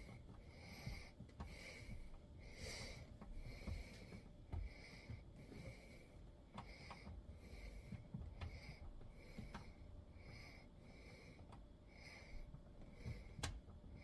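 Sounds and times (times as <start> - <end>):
man breathing through nose: 0.5 - 13.5.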